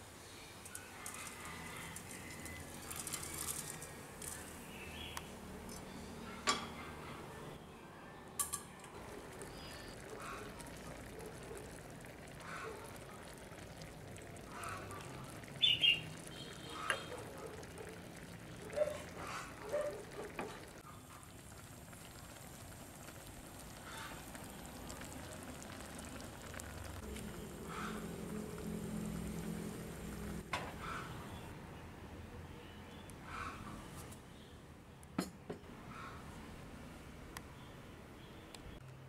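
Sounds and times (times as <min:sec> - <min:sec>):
faint steady background noise: 0:00.0 - 0:39.0.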